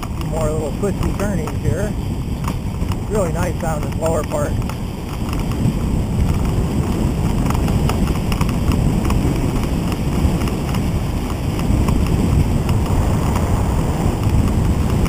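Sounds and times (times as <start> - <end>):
trike ticking and rattling: 0.0 - 15.0
wind buffeting microphone: 0.0 - 15.0.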